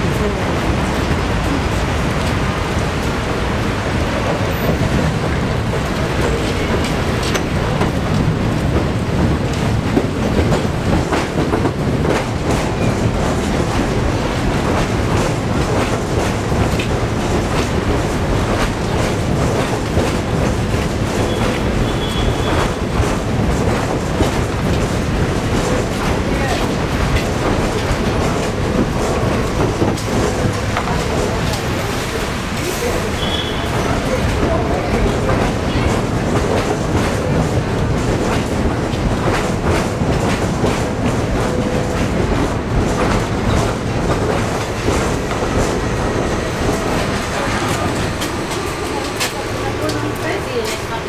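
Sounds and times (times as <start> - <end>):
subway train rumbling past: 0.0 - 51.0.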